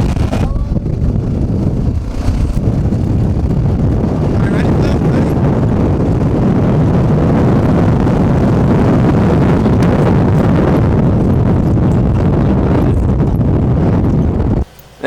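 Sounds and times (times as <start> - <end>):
off-road vehicle running: 0.0 - 15.0
wind buffeting microphone: 0.0 - 15.0.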